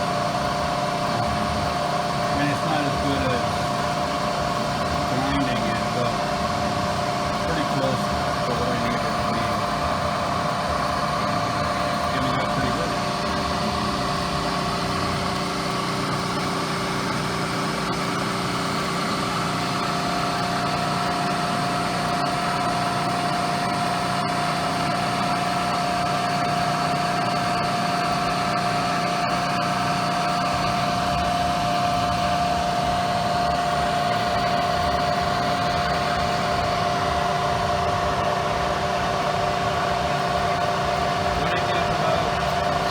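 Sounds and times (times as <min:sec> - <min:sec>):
milling machine cutting steel: 0:00.0 - 0:42.9.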